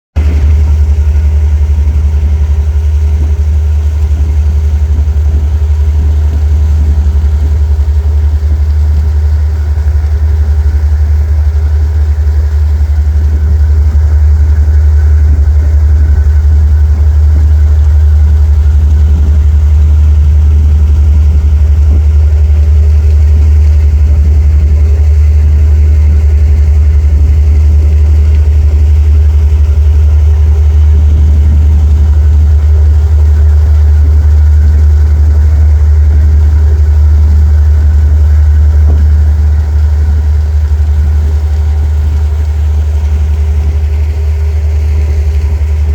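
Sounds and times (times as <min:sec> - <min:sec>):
boat engine running: 0:00.2 - 0:45.9.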